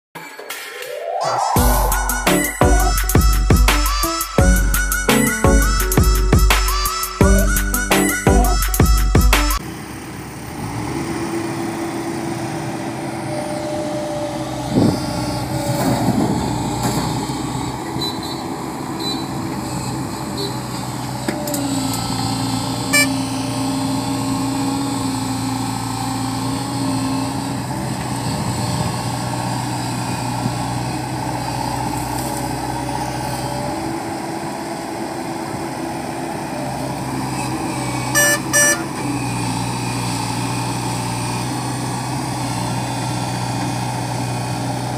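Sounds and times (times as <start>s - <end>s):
excavator diesel engine running: 1.3s - 44.9s.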